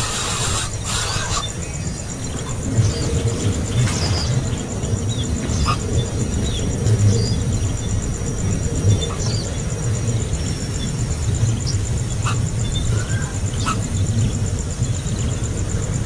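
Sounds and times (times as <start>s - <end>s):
baby birds begging chirps: 0.0s - 15.4s
steady low rumble: 0.0s - 16.0s.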